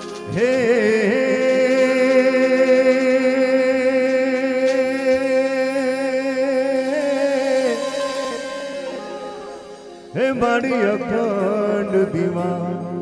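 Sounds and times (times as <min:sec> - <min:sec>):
person singing a long note: 0:00.0 - 0:13.0.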